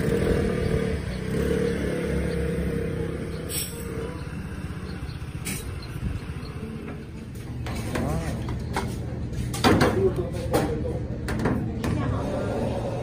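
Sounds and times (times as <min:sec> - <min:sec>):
scooter engine rumbling: 0:00.0 - 0:13.0
street traffic: 0:00.0 - 0:13.0.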